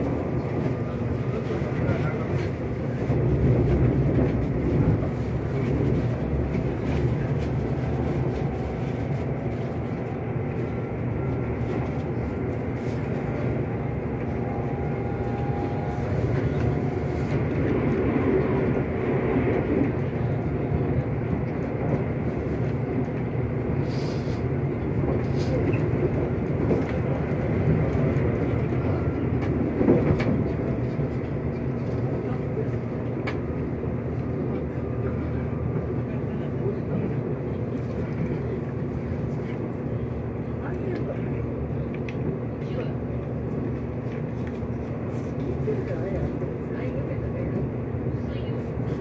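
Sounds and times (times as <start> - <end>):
train rumbling on track: 0.0 - 49.0.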